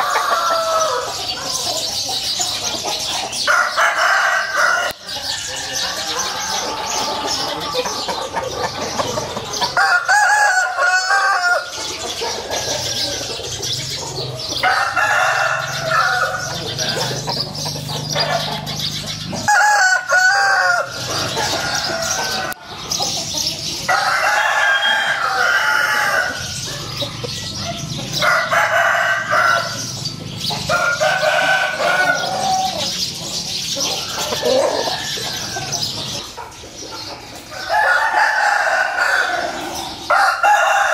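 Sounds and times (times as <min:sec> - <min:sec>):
roosters crowing: 0:00.0 - 0:40.9.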